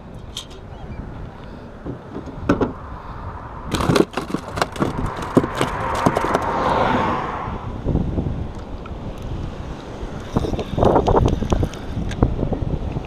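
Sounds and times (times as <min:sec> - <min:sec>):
rush of noise: 0:00.0 - 0:13.0.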